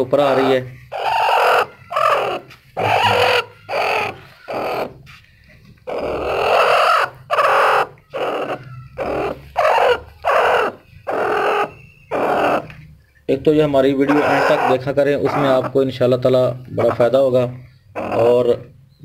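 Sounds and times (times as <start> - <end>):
hen protesting calls: 0.0 - 5.2, 5.8 - 19.0.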